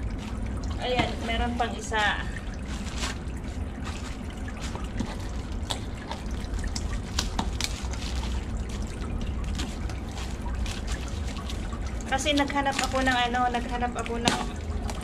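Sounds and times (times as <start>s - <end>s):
low rumble with trickling hiss: 0.0s - 15.0s
clicks and rustles of plastic wrapping: 2.0s - 15.0s.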